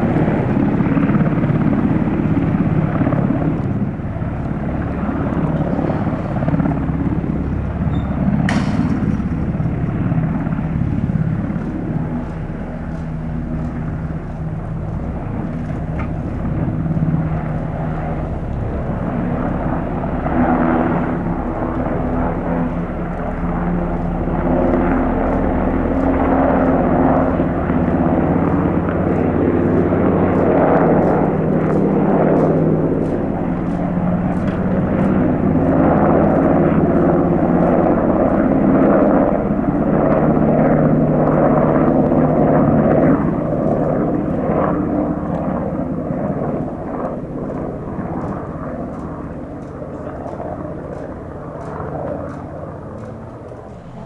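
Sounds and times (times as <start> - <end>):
helicopter engine whine: 0.0 - 54.0
helicopter rotor beat: 0.0 - 54.0.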